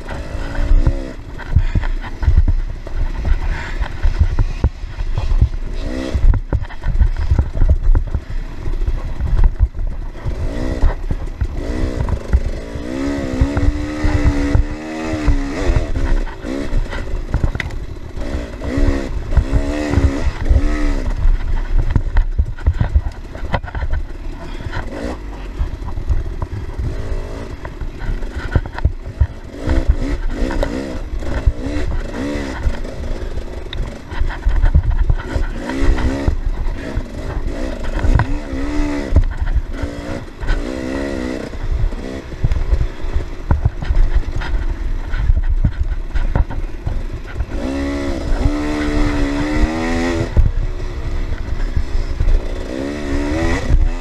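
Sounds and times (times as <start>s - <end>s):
bike rattling over rough trail: 0.0s - 54.0s
dirt bike engine revving: 0.0s - 54.0s.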